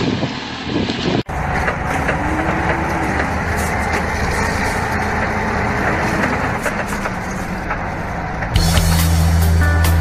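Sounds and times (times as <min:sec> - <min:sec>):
truck and tractor engines rumbling: 0:00.0 - 0:10.0.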